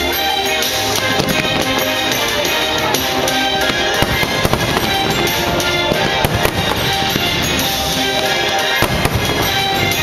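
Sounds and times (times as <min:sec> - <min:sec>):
loud music over loudspeakers: 0:00.0 - 0:10.0
fireworks pops and crackles: 0:00.7 - 0:10.0.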